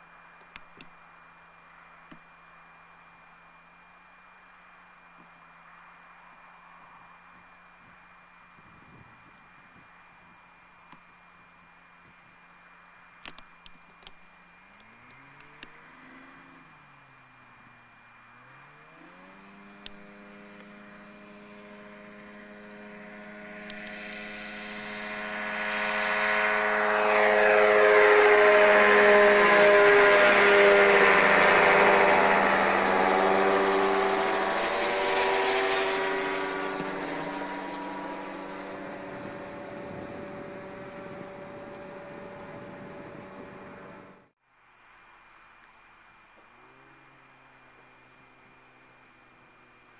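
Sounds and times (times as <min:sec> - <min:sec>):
microlight engine and propeller: 0:00.0 - 0:44.4, 0:45.4 - 0:49.9.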